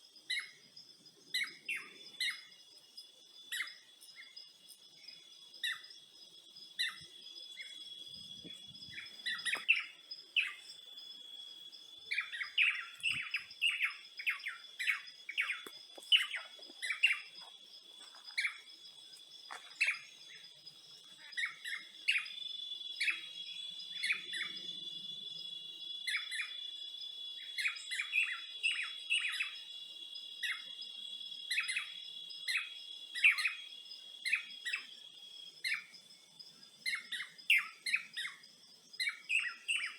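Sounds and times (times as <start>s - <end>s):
birds chirping: 0.0s - 30.8s, 36.7s - 39.9s
high-pitched insect drone: 0.0s - 39.9s.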